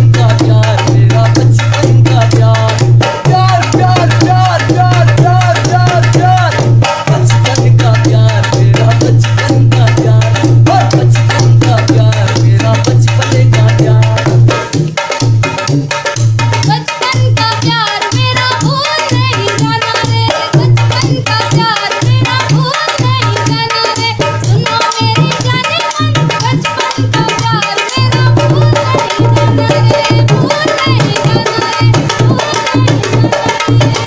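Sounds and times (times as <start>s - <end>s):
dholak drum beating: 0.0s - 34.0s.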